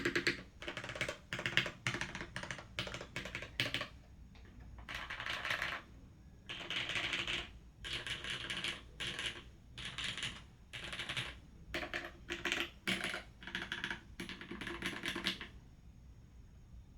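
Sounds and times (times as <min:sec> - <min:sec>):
mechanical keyboard typing: 0:00.0 - 0:05.9, 0:06.5 - 0:15.6.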